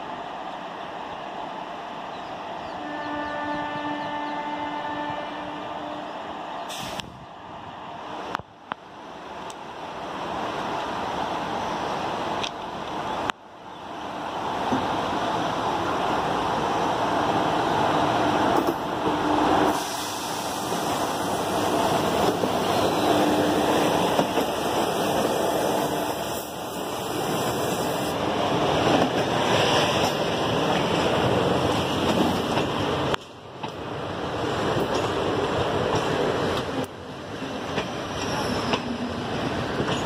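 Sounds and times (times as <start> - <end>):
train wheels rushing on rail: 0.0 - 40.0.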